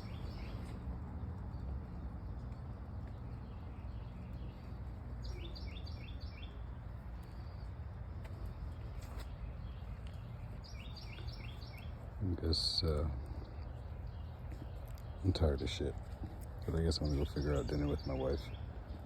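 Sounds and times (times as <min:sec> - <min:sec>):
low background rumble: 0:00.0 - 0:19.0
songbird chirping: 0:00.0 - 0:19.0.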